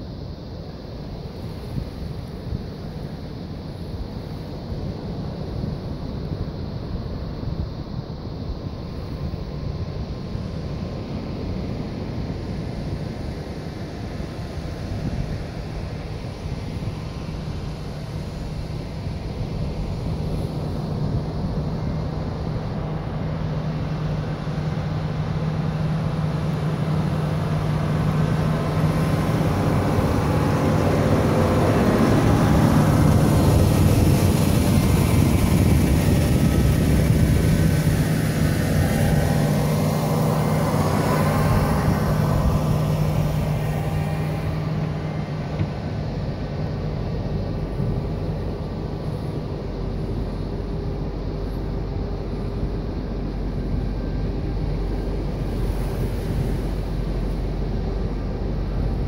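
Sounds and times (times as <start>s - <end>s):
engine drone passing by: 0.0s - 59.0s.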